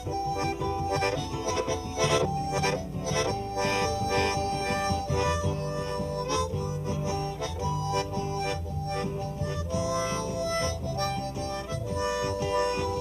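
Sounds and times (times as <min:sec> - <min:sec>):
harmonica melody: 0:00.0 - 0:13.0.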